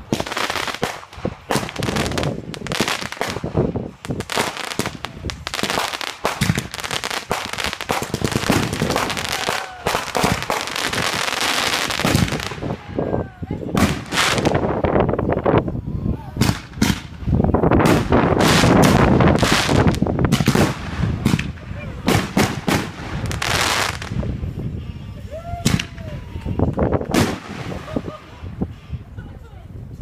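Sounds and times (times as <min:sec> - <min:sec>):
fireworks bangs and crackling: 0:00.0 - 0:15.2, 0:16.3 - 0:24.8, 0:25.6 - 0:28.8.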